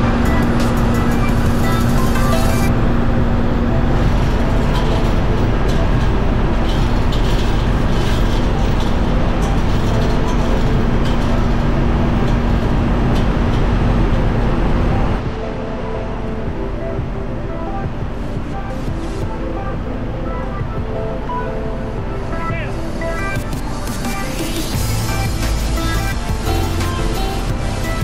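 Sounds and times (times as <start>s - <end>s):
engine room machinery hum: 0.0s - 28.0s.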